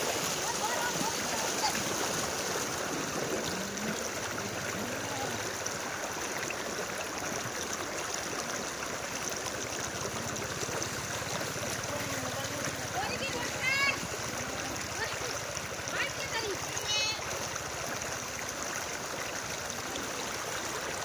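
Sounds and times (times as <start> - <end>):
floodwater sloshing: 0.0 - 21.0.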